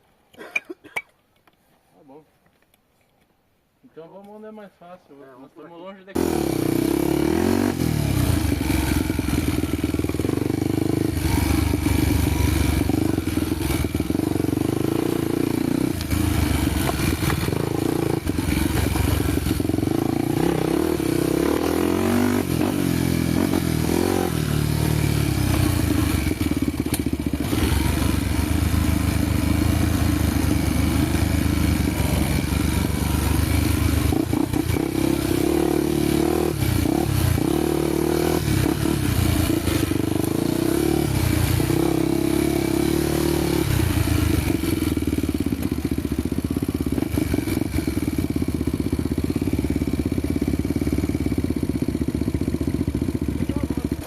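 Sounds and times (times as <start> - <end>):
motorcycle engine revving: 6.2 - 54.0.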